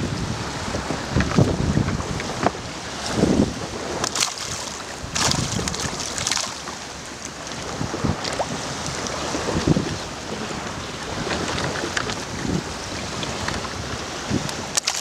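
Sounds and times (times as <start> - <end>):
sea water splashing: 0.0 - 15.0
wind buffeting microphone: 0.0 - 15.0.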